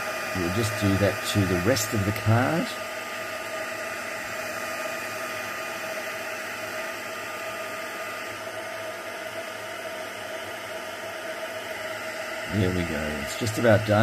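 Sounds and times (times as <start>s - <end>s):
heat gun blowing with whine: 0.0s - 14.0s.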